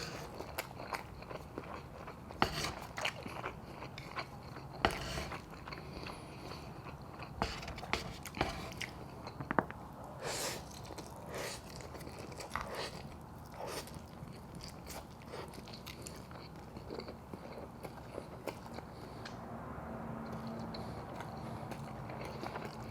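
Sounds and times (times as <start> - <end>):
person chewing food: 0.0 - 22.9.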